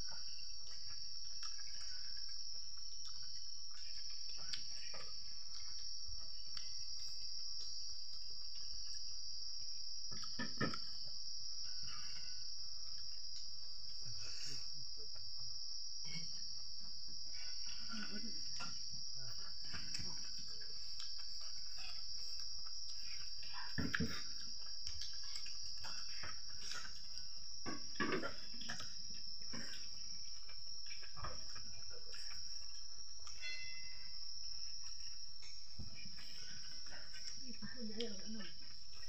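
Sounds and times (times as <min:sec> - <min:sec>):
insect chorus droning: 0:00.0 - 0:39.0.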